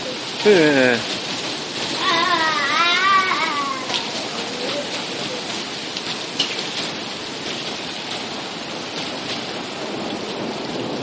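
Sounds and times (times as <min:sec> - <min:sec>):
heavy rain pattering: 0:00.0 - 0:11.0.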